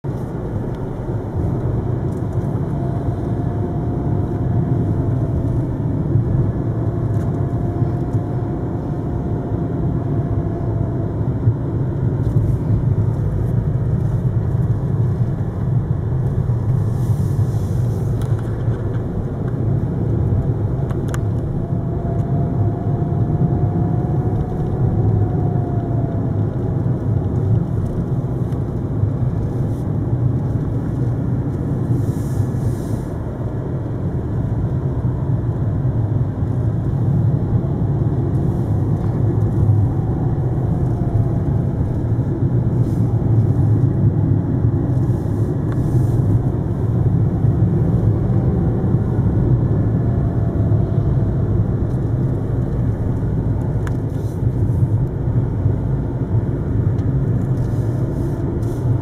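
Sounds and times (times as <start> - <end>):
car engine and road rumble: 0.0 - 59.0
faint whine: 0.0 - 59.0.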